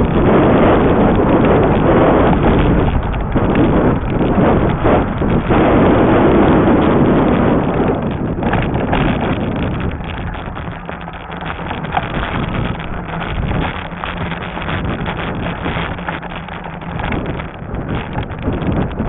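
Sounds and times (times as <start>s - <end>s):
tyres rolling over trail: 0.0s - 19.0s
wind buffeting microphone: 0.0s - 19.0s.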